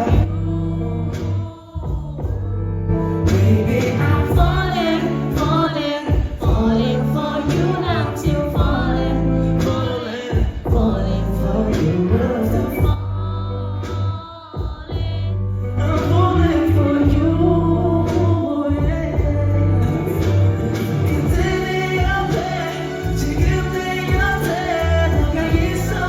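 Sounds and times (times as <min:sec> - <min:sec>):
live pop song with vocals: 0:00.0 - 0:26.0.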